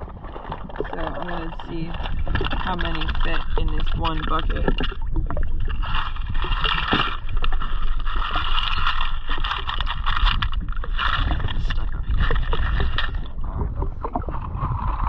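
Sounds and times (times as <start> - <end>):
water sloshing: 0.0 - 15.0
wind rumble on microphone: 0.0 - 15.0.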